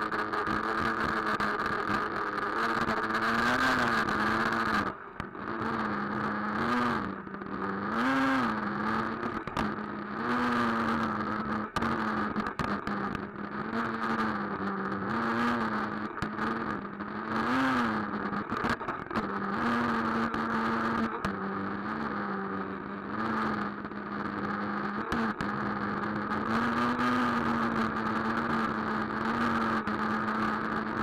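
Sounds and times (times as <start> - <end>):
small nitro engine revving: 0.0 - 31.0.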